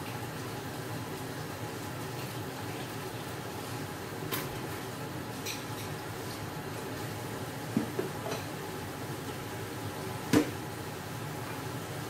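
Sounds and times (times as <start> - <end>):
pot simmering hiss: 0.0 - 12.0.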